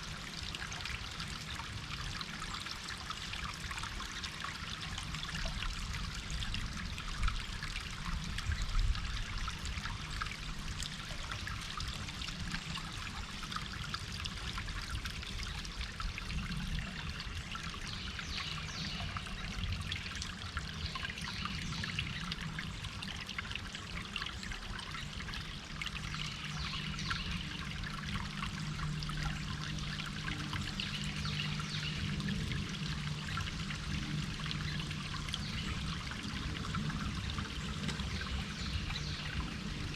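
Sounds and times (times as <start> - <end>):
low steady hum: 0.0 - 39.9
small stream trickling: 0.0 - 39.9.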